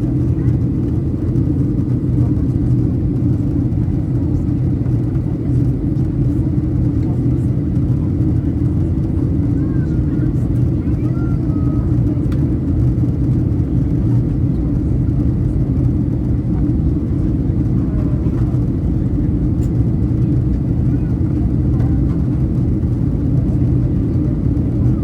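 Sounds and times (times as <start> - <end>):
airflow over fuselage: 0.0 - 25.0
faint voices: 0.0 - 25.0
jet engine drone in cabin: 0.0 - 25.0.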